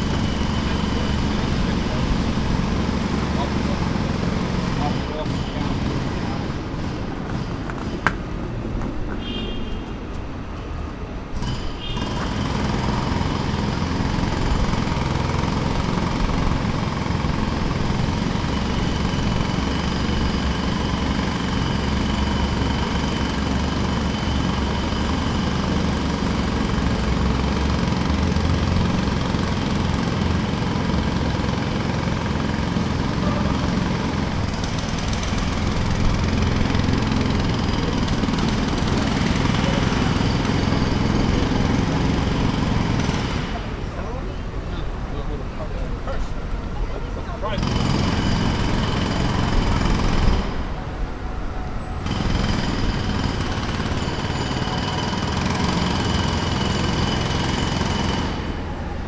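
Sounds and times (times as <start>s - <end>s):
jackhammer hammering: 0.0s - 8.5s, 11.2s - 44.9s, 47.4s - 51.1s, 51.9s - 59.0s.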